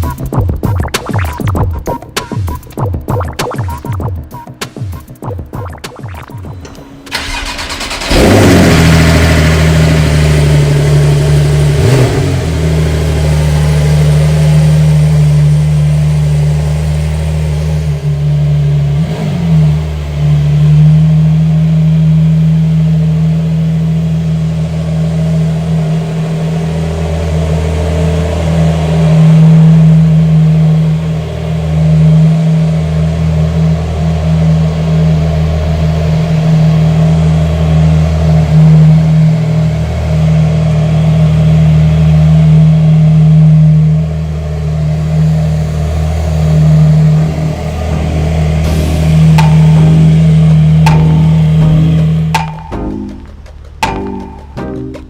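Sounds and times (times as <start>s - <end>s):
car engine starting and idling: 0.0s - 55.0s.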